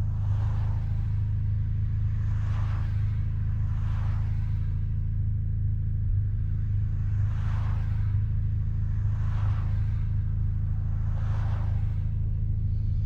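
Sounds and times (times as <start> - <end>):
rotary engine drone: 0.0 - 13.0.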